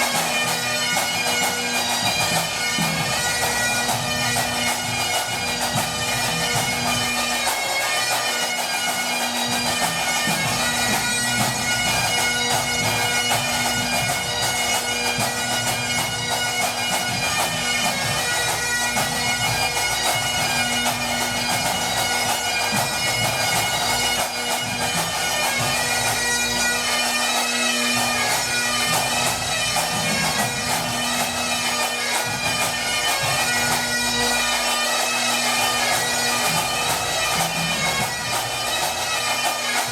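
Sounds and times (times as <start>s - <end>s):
bagpipes playing over drone: 0.0s - 39.9s.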